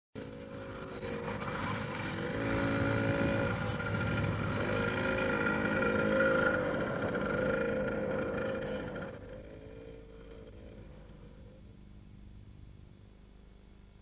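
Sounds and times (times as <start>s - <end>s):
child's motorbike engine revving: 0.2s - 11.6s.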